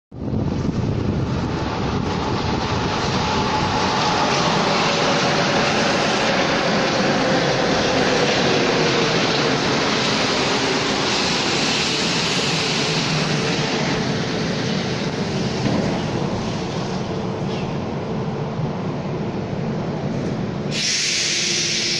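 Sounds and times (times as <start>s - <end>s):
metro train rushing past: 0.1s - 21.9s.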